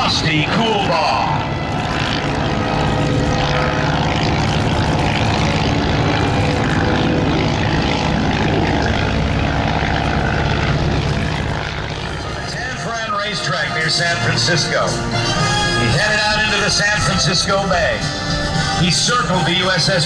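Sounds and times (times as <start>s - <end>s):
biplane engine drone: 0.0s - 20.0s.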